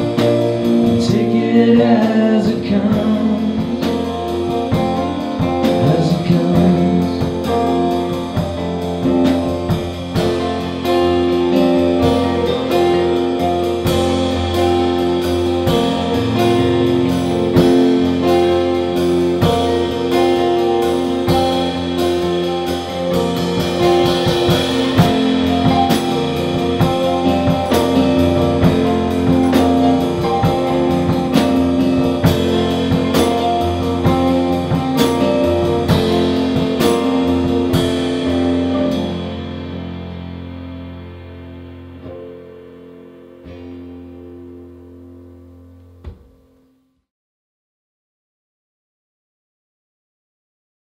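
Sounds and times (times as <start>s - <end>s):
live band playing rock: 0.0s - 46.4s.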